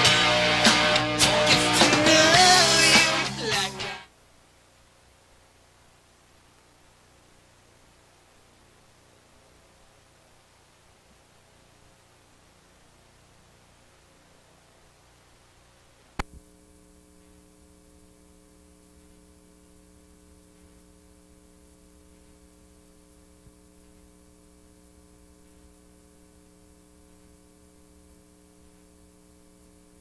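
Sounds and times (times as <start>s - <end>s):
electrical hum with hiss: 0.0s - 30.0s.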